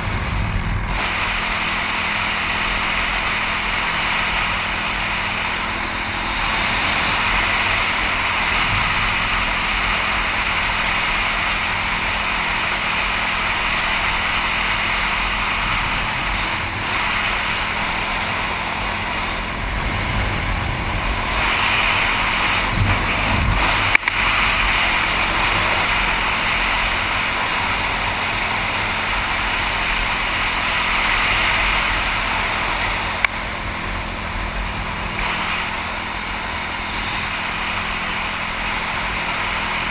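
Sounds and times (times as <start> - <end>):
dirt bike engine running: 0.0 - 39.9
wind rushing over microphone: 0.0 - 39.9.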